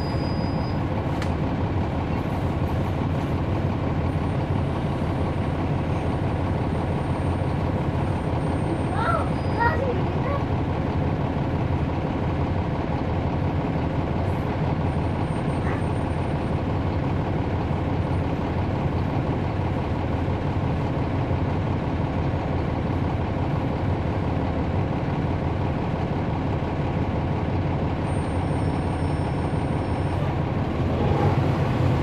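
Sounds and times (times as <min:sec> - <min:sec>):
bus diesel engine droning: 0:00.0 - 0:32.0.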